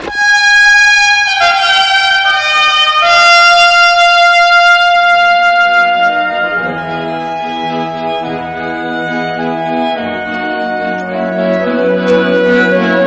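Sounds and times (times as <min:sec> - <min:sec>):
brass fanfare with trumpets: 0:00.0 - 0:13.0.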